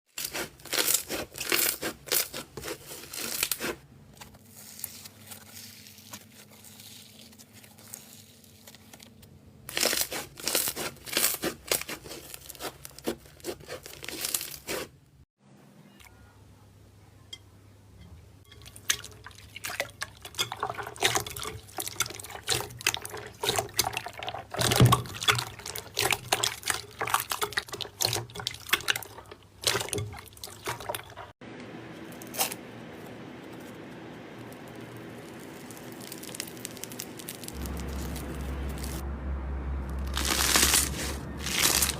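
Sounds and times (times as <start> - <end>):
slime crackling and squishing: 0.1 - 15.0, 18.6 - 31.4, 32.2 - 39.0, 39.8 - 41.9.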